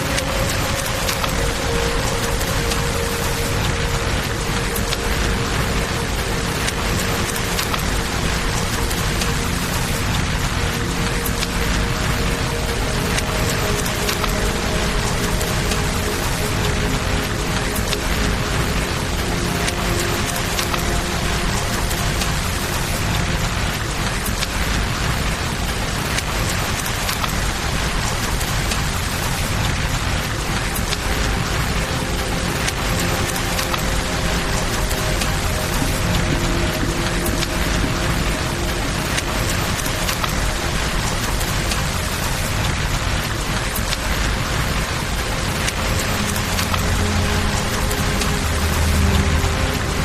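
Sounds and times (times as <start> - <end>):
campfire crackling: 0.0 - 50.0
river rushing: 0.0 - 50.0
steady rain falling: 0.0 - 50.0.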